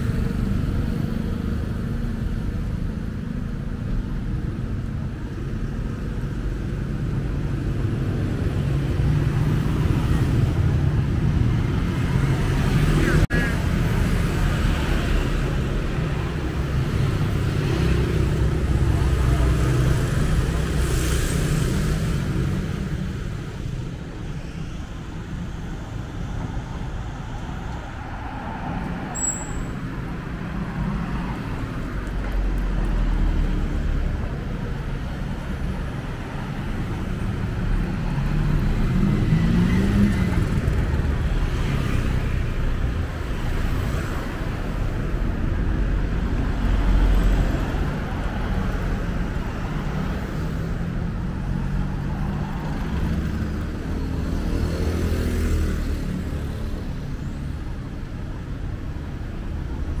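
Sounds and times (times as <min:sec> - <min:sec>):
cars driving past: 0:08.1 - 1:00.0.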